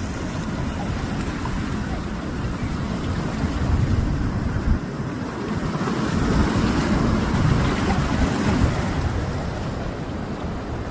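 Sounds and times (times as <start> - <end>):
sea waves on rocky shore: 0.0 - 10.9
wind rumbling on microphone: 0.0 - 10.9.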